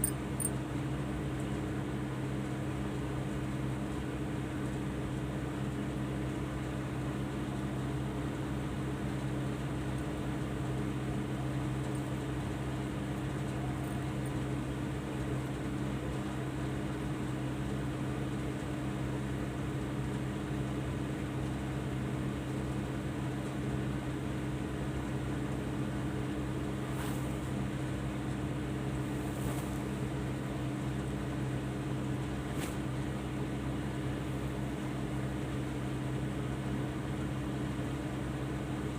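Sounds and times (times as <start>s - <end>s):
low mechanical hum: 0.0s - 38.9s.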